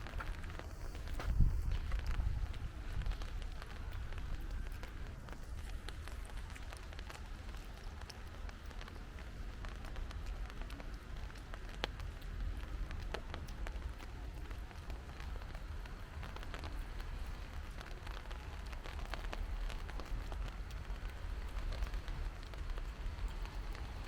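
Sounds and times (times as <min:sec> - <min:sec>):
raindrops ticking on hard surfaces: 0:00.0 - 0:24.0
steady low rumble: 0:00.0 - 0:24.0.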